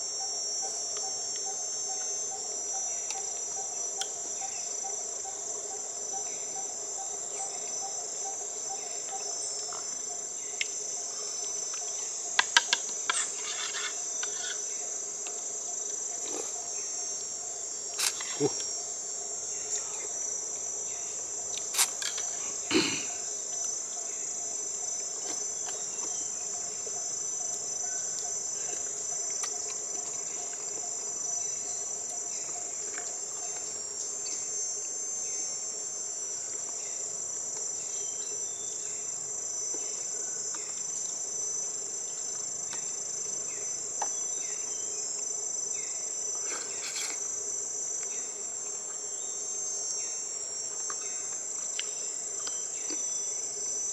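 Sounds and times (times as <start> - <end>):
insect chorus chirring: 0.0 - 53.9.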